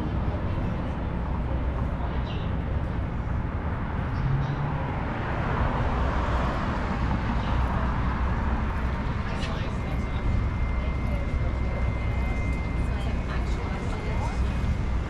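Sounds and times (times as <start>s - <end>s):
street noise with low rumble: 0.0s - 15.0s
traffic passing: 0.0s - 15.0s.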